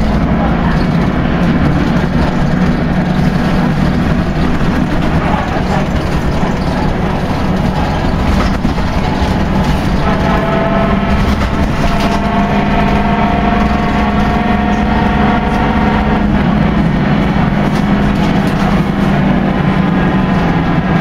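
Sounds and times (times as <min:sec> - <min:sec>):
bus drivetrain rumble: 0:00.0 - 0:21.0.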